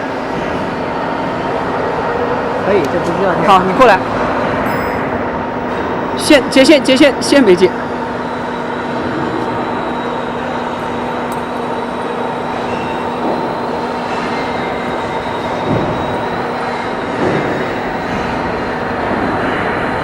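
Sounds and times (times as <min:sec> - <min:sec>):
machinery hum: 0:00.0 - 0:20.0
thin high whine: 0:00.0 - 0:20.0.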